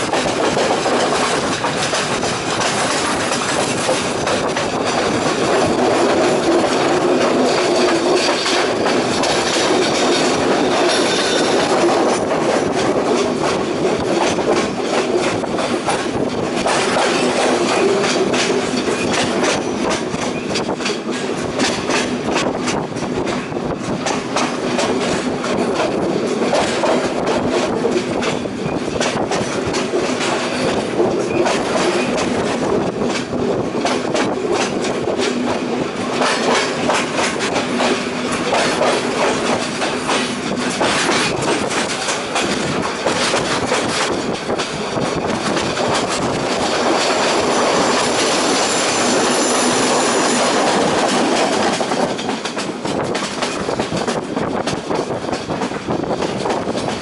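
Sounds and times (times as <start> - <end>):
train rumble: 0.0 - 57.0
wheels clacking over rail joints: 0.0 - 57.0.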